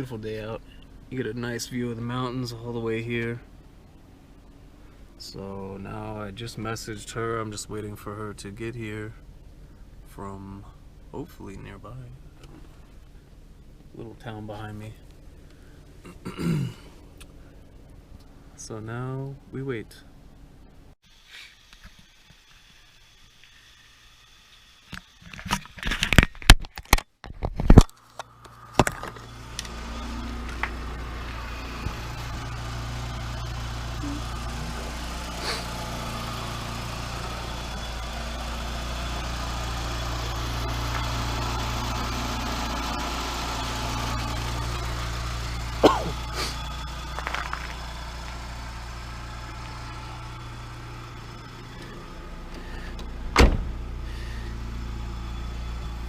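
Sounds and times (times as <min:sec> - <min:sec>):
car engine idling: 0:00.0 - 0:21.0, 0:28.1 - 0:56.0.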